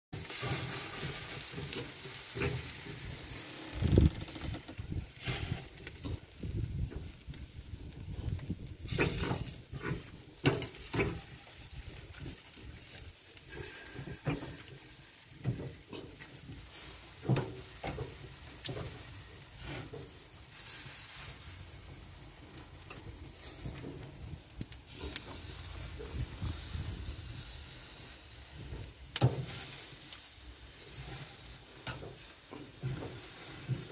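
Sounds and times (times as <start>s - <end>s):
chicken sizzling on a grill: 0.2s - 33.9s.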